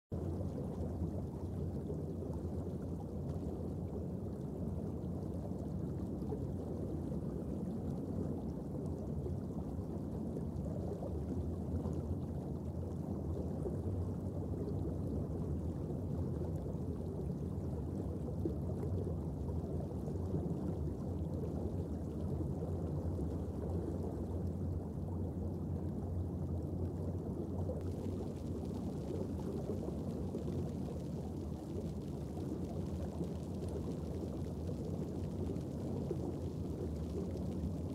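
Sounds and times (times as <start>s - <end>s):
underwater rushing water: 0.2s - 37.9s.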